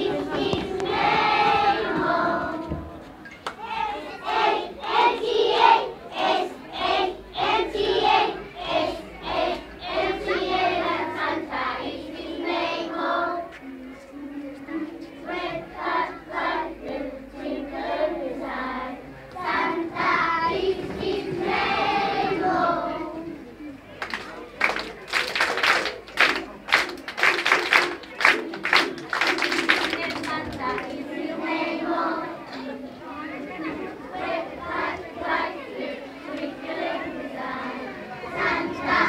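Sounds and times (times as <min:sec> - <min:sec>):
children singing in unison: 0:00.0 - 0:23.5, 0:28.7 - 0:39.0.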